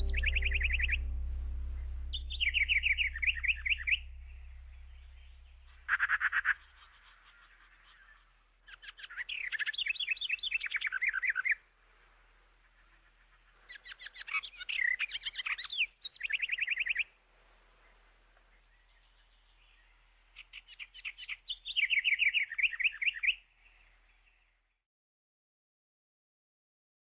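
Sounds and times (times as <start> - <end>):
songbird singing: 0.0 - 24.8.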